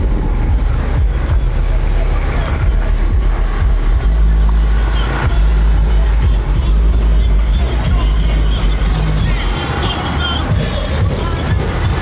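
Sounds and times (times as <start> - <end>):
indistinct voices: 0.0 - 12.0
low rumble of vehicles: 0.0 - 12.0.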